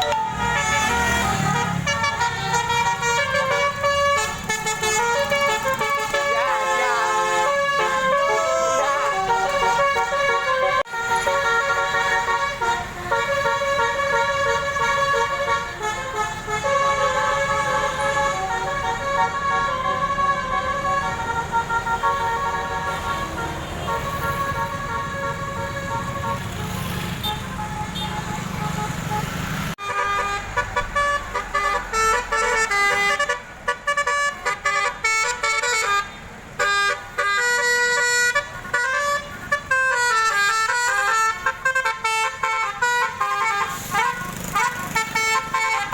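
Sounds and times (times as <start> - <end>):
multi-tone musical bus horn: 0.0 - 45.9.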